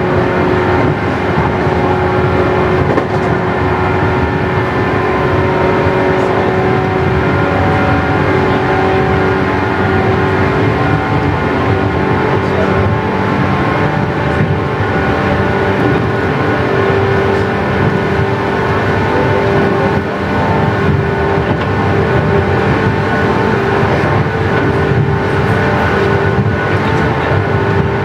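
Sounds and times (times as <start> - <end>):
train motors humming: 0.0 - 28.0
wheels rumbling on rail: 0.0 - 28.0.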